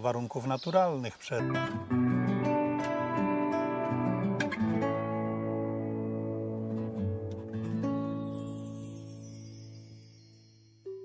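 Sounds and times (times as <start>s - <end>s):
acoustic guitar music: 1.3s - 11.0s.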